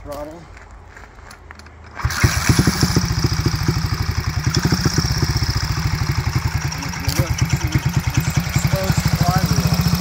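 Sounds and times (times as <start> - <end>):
motorcycle engine kick-started and idling: 1.8 - 10.0.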